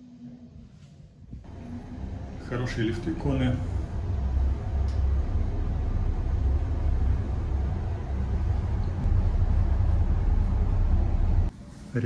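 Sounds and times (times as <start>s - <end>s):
lift car low rumble: 0.0s - 12.0s.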